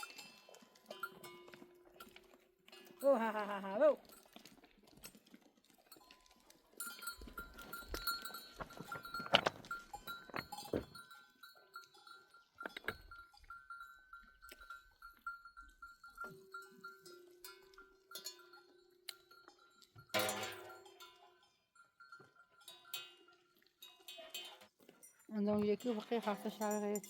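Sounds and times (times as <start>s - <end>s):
animal bells clanking: 0.0s - 27.0s.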